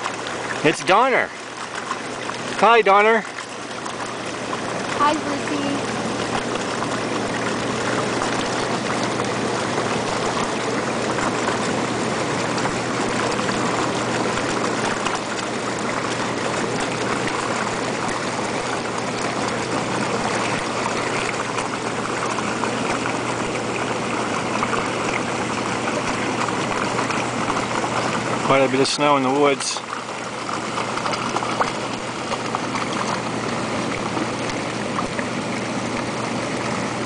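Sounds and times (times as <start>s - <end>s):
pump motor hum: 0.0s - 37.0s
water churning and bubbling: 0.0s - 37.0s.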